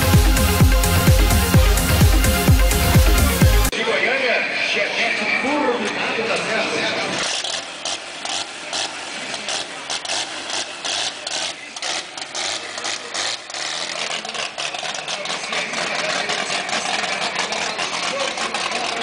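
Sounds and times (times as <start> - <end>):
car engine idling unevenly: 0.0 - 3.7, 4.5 - 19.0.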